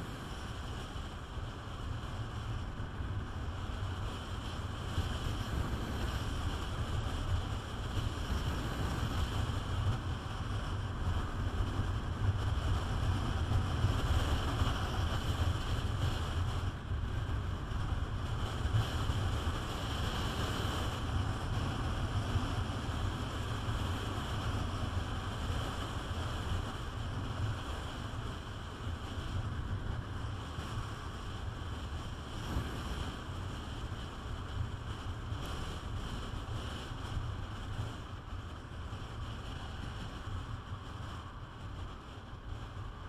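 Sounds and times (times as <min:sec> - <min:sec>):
scooter engine and road noise: 0:00.0 - 0:43.0.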